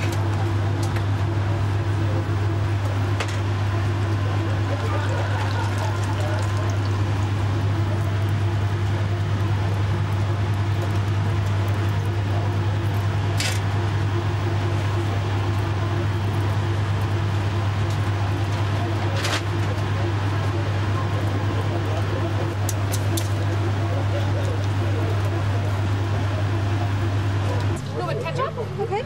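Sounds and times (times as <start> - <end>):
low hum with hiss: 0.0 - 29.0.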